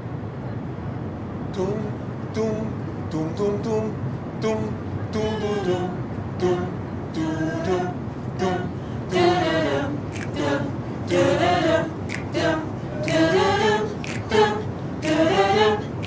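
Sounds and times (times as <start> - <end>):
person singing wordless phrases: 1.6 - 15.9.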